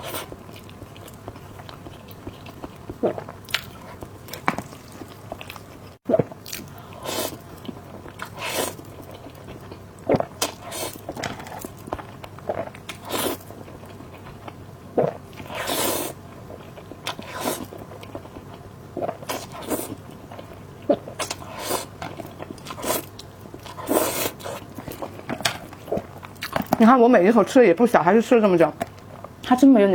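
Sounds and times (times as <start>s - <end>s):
person chewing food: 0.0s - 26.8s.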